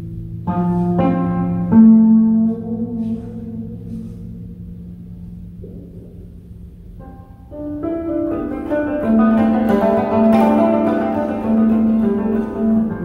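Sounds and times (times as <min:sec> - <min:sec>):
plucked koto notes: 0:00.0 - 0:13.0.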